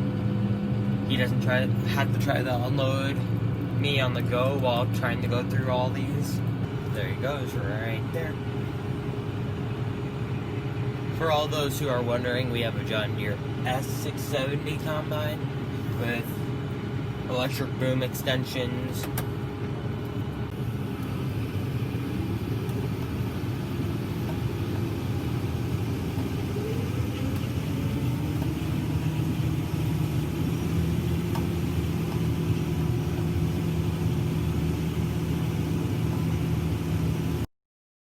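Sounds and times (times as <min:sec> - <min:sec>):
tractor diesel engine running: 0:00.0 - 0:37.5.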